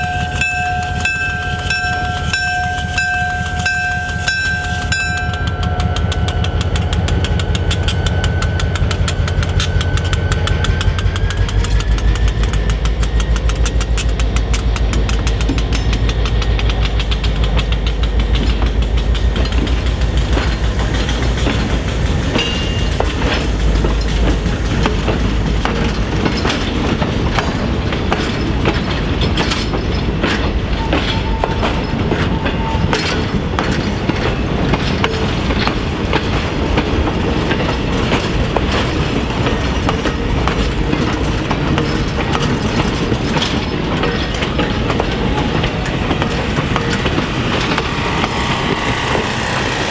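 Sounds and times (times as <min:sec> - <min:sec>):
diesel locomotive rumble: 0:00.0 - 0:49.9
train wheels clicking over joints: 0:00.0 - 0:49.9.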